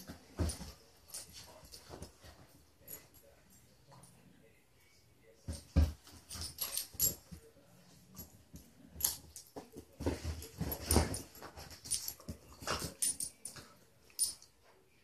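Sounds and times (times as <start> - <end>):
dog play noises: 0.0 - 15.0.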